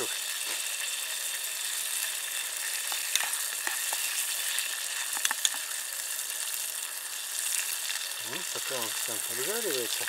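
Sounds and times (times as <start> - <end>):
onion sizzling in oil: 0.0 - 10.0.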